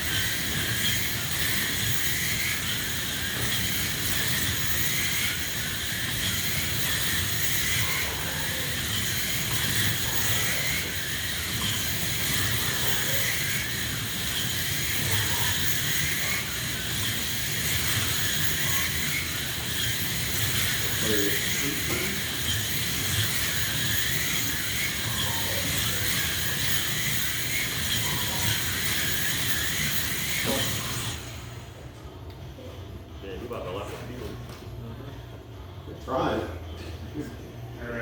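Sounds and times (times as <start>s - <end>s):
slot car motors whining: 0.0s - 36.8s.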